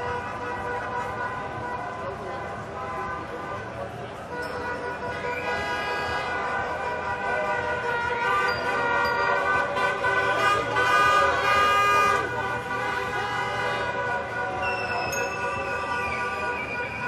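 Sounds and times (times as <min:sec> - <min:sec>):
many car horns honking: 0:00.0 - 0:17.0.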